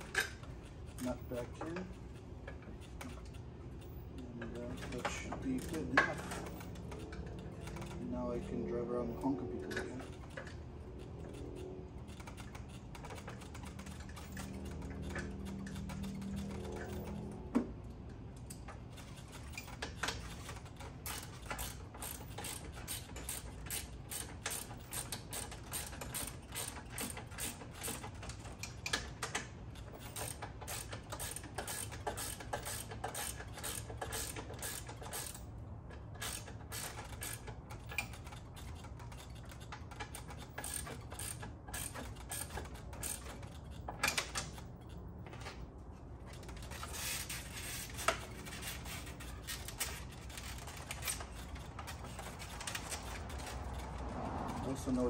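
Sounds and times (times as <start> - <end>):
ratchet wrench clicking: 0.0 - 45.6, 46.2 - 55.0.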